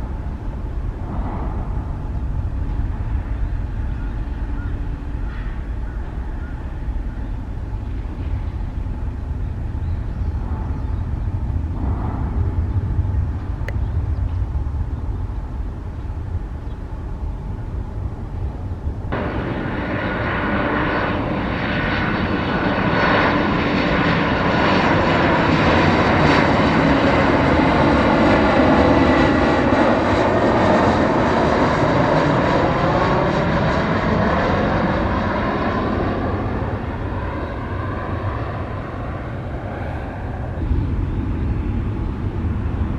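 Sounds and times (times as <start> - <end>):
jet airliner passing: 0.0 - 42.9
low rumble: 0.0 - 42.9.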